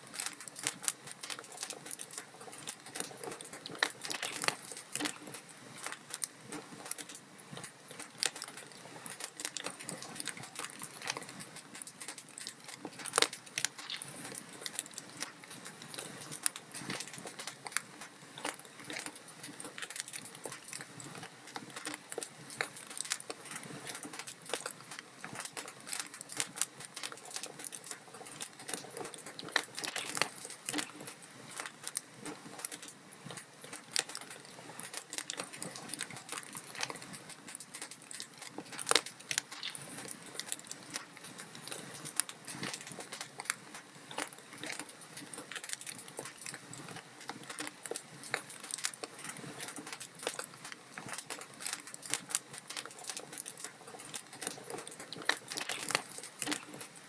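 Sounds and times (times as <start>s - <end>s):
log fire crackling: 0.0s - 57.0s.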